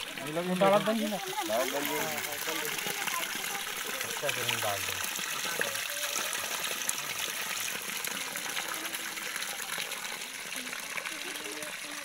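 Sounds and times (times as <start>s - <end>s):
spring water trickling: 0.0s - 12.0s.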